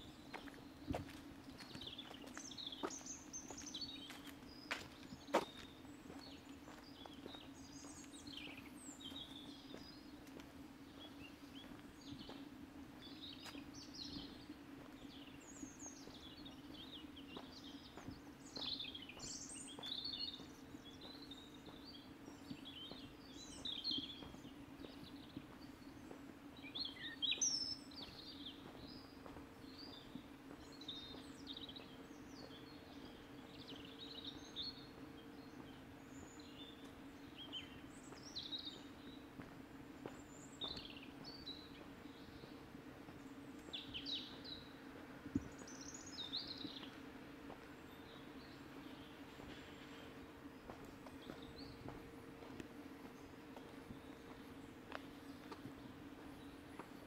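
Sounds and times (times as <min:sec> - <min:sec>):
small birds chirping: 0:00.0 - 0:57.0
steady low hum: 0:00.0 - 0:57.0.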